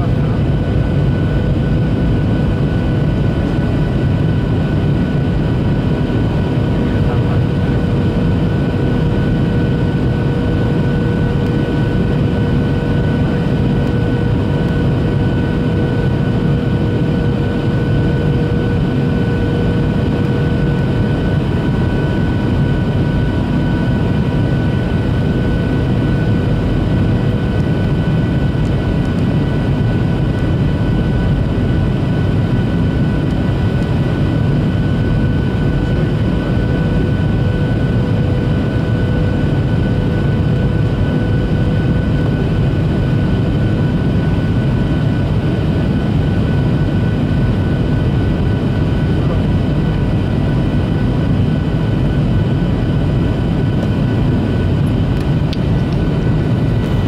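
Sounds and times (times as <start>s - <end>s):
airflow rushing in cabin: 0.0s - 57.0s
jet engines humming and whining: 0.0s - 57.0s.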